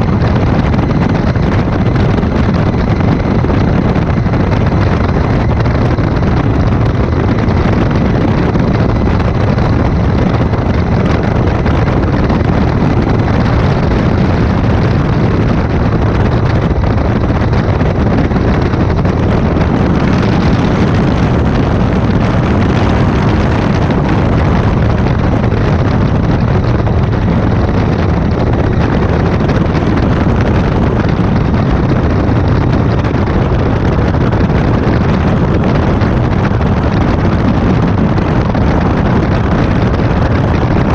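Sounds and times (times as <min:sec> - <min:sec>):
light aircraft engine droning: 0:00.0 - 0:40.9
wind noise on microphone: 0:00.0 - 0:40.9.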